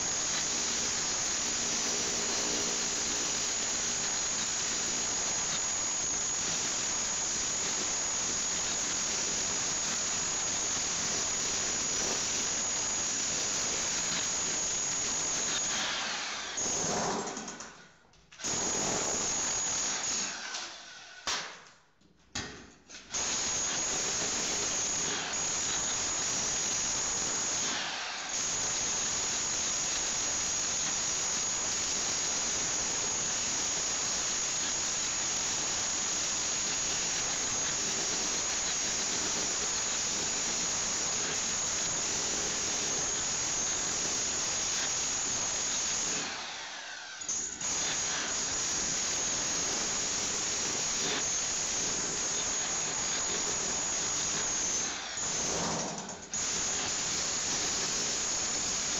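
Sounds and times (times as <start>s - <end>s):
electric chipping hammer: 0.0s - 17.7s, 18.4s - 20.8s, 23.1s - 58.9s.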